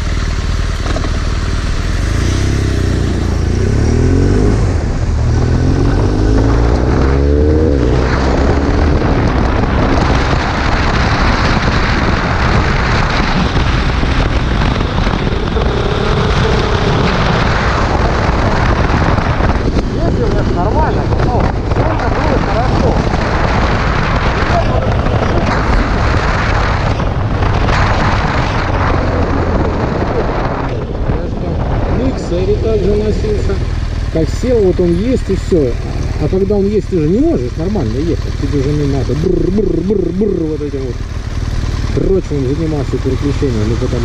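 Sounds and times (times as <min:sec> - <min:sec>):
motorcycle engine accelerating: 0:00.0 - 0:44.0
wind and road noise: 0:00.0 - 0:44.0.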